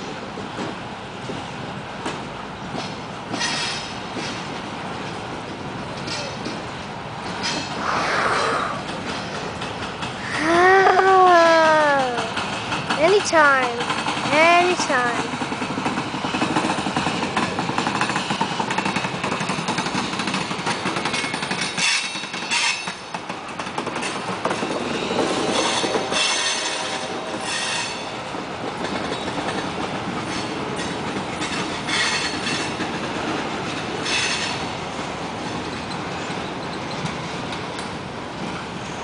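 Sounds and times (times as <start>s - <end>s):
train wheels clattering over rail joints: 0.0s - 7.9s, 8.6s - 10.5s, 11.4s - 38.8s.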